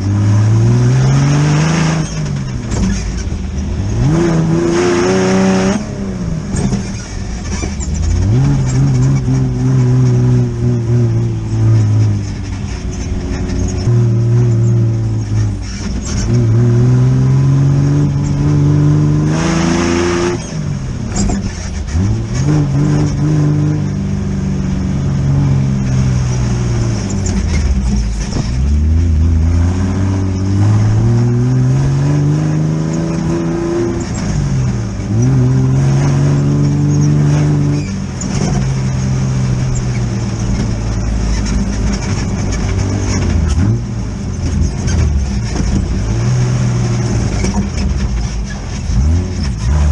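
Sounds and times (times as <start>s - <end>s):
buggy engine accelerating: 0.0s - 49.9s.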